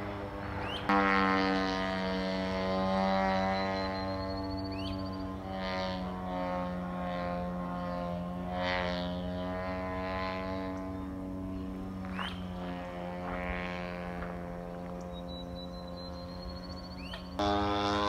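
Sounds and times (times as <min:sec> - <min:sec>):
model airplane engine droning: 0:00.0 - 0:18.0.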